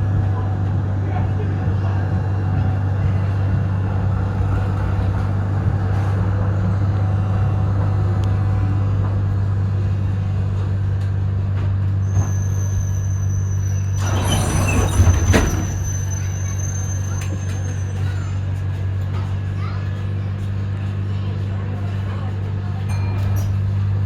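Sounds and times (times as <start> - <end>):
tram running: 0.0 - 24.0.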